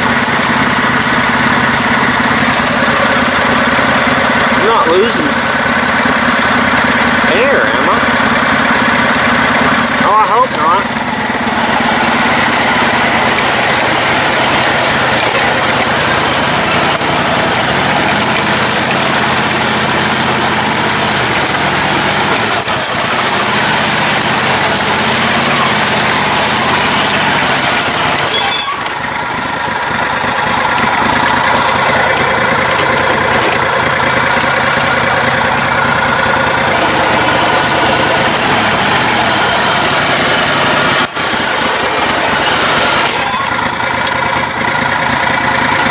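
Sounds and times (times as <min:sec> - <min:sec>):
riding lawn mower engine: 0:00.0 - 0:45.9.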